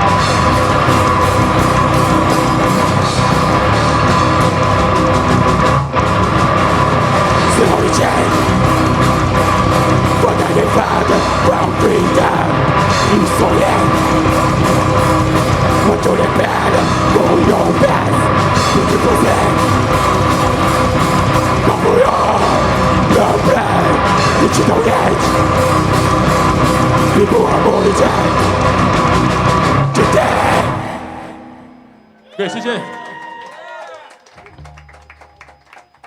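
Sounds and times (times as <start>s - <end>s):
rock band playing loud: 0.0s - 32.0s
shouted metal vocal: 0.0s - 33.0s.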